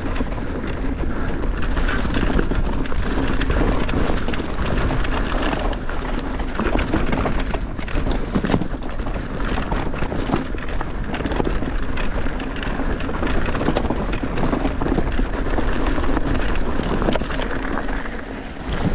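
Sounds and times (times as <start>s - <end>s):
bike rattling and knocking: 0.0s - 18.9s
bike tyres rolling on dirt: 0.0s - 18.9s
wind rumble on microphone: 0.0s - 18.9s.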